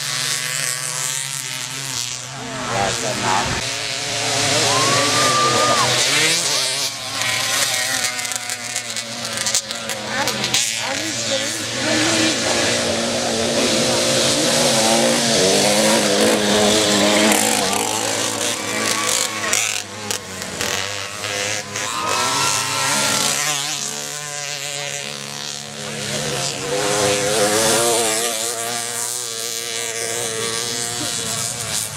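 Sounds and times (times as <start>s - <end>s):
moped engines revving: 0.0s - 31.9s.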